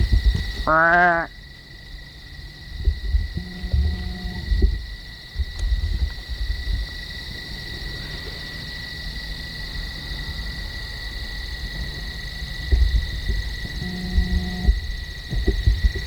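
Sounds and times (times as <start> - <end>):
low rumbling on microphone: 0.0 - 0.7, 1.9 - 16.0
insect chorus trilling: 0.0 - 16.0.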